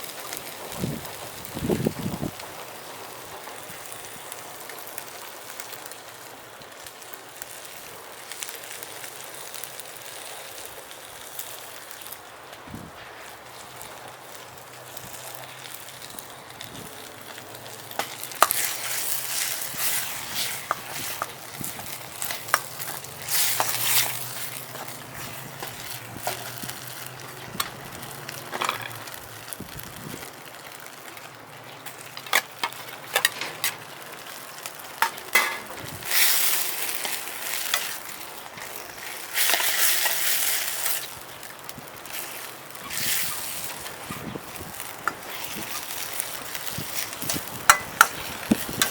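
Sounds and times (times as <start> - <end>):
food sizzling in a wok: 0.0 - 48.9.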